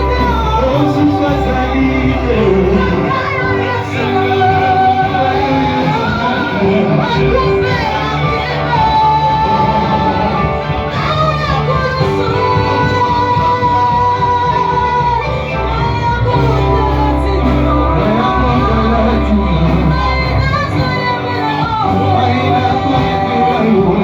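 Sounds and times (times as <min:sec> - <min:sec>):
instrumental accompaniment: 0:00.0 - 0:24.0
voices singing held notes: 0:00.0 - 0:24.0.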